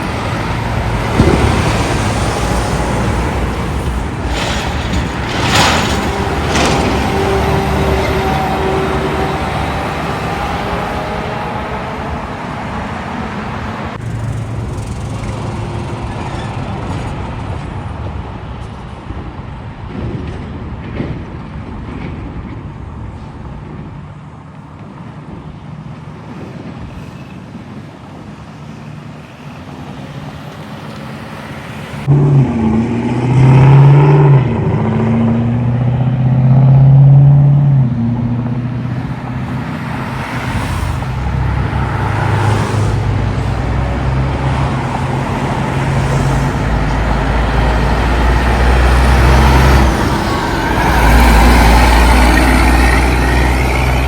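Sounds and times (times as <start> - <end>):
truck diesel engine passing: 0.0 - 18.6, 23.8 - 54.0
road traffic passing: 0.0 - 54.0.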